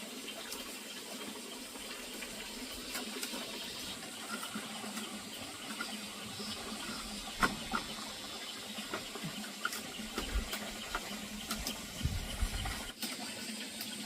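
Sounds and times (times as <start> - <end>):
water running: 0.0 - 14.0.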